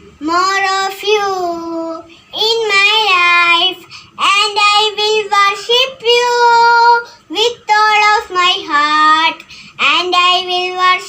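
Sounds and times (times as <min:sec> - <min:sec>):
young child singing: 0:00.2 - 0:11.0.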